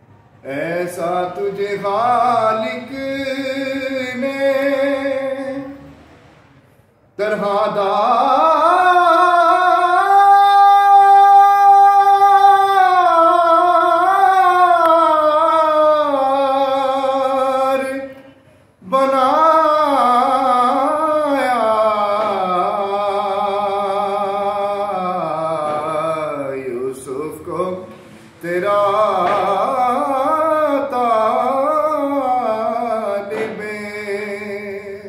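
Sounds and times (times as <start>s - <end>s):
man singing unaccompanied: 0.4s - 5.9s, 7.2s - 35.0s.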